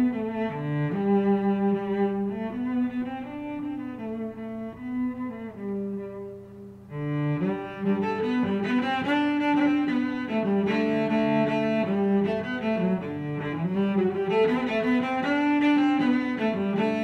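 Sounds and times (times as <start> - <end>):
slow sustained string music: 0.0 - 17.0.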